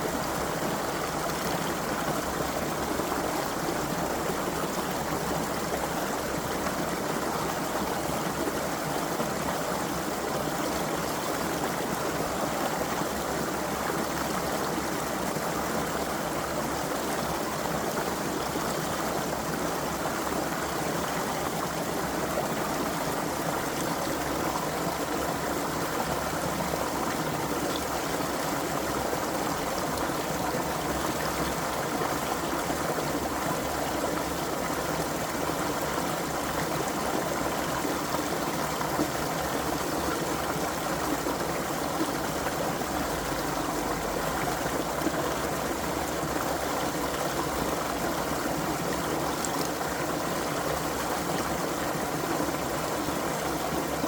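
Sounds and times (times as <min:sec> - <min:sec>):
creek running over stones: 0:00.0 - 0:54.0.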